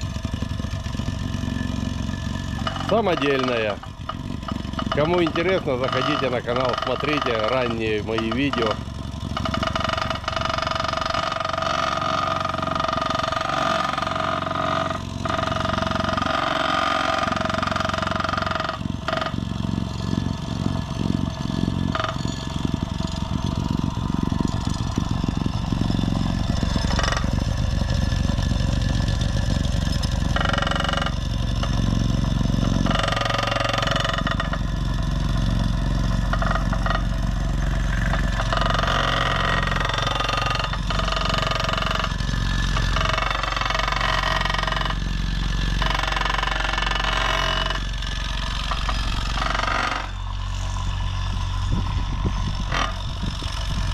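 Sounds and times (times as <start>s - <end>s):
plate compactor running: 0.0s - 53.9s.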